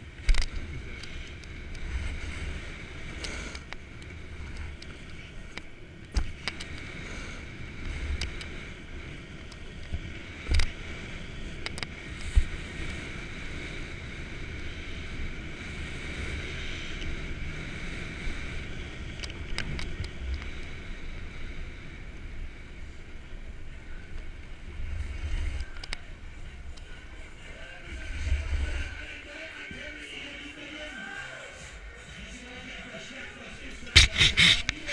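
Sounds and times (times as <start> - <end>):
snowboard scraping over snow: 0.0 - 25.7, 26.6 - 30.4, 33.8 - 34.9
wind buffeting microphone: 0.0 - 29.3.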